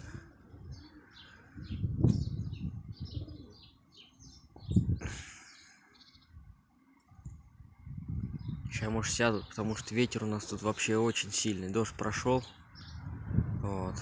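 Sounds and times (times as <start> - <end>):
wind buffeting microphone: 0.0 - 5.3, 6.3 - 14.0
small birds chirping: 0.0 - 14.0.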